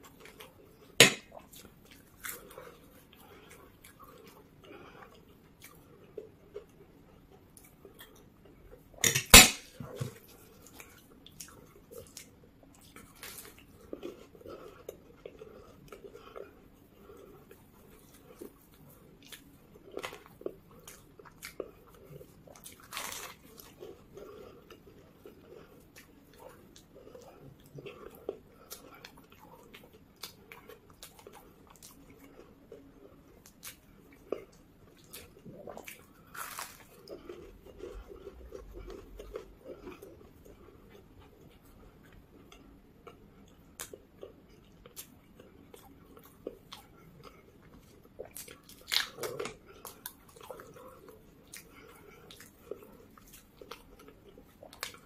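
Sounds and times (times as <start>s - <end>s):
chewing crisp pastry: 0.0s - 55.0s.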